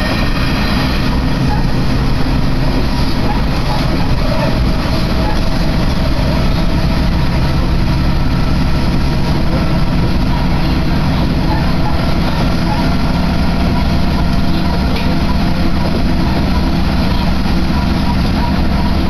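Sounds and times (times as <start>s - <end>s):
diesel engine drone: 0.0s - 19.0s
train wheels rumbling on rails: 0.0s - 19.0s.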